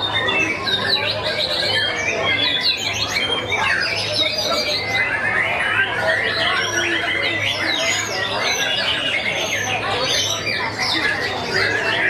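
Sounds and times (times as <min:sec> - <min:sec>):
birds whistling and chirping: 0:00.0 - 0:12.0.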